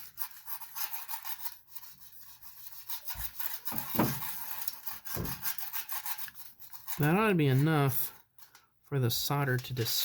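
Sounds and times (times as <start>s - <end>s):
sandpaper scrubbing on foil: 0.0s - 10.0s.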